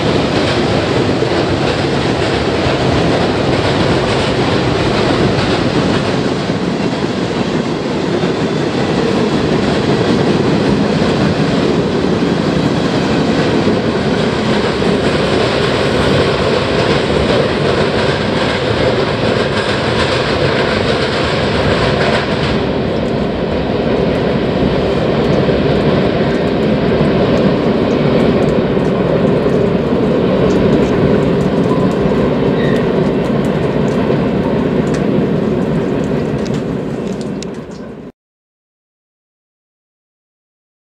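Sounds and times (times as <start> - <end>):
steel wheels clattering over track: 0.0 - 37.9.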